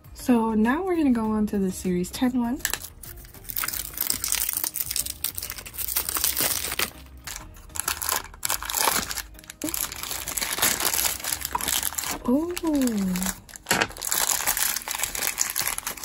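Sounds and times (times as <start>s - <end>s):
plastic wrap crinkling and tearing: 2.6s - 16.0s
tissue paper crumpling: 2.7s - 16.0s.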